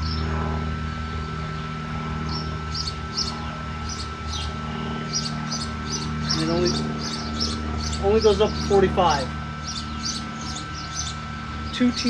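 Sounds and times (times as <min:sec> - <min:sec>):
low machine hum with high whine: 0:00.0 - 0:12.0
small birds chirping: 0:00.0 - 0:12.0.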